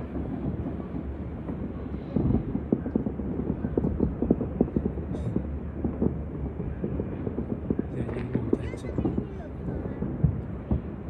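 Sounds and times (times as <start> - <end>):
distant fireworks bangs: 0.0 - 11.0.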